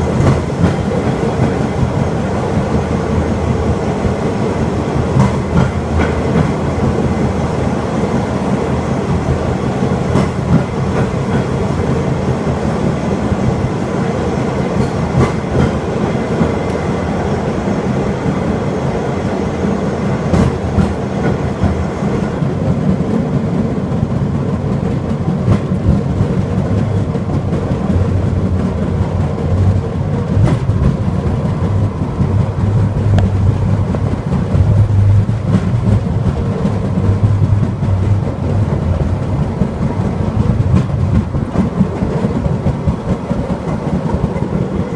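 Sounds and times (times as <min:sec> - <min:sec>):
wheels clacking over rail joints: 0:00.0 - 0:18.9, 0:19.5 - 0:44.9
rail cart rumbling on track: 0:00.0 - 0:44.9.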